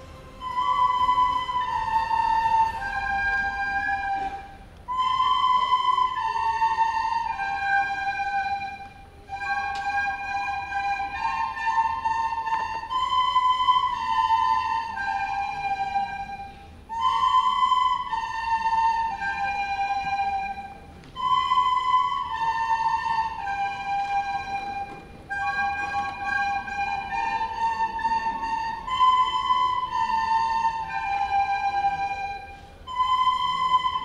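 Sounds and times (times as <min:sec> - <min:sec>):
recorders playing slow melody: 0:00.0 - 0:34.0.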